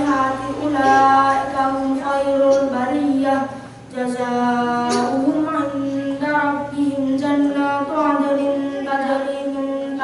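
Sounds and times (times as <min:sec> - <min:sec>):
boy chanting melodically: 0:00.0 - 0:10.0.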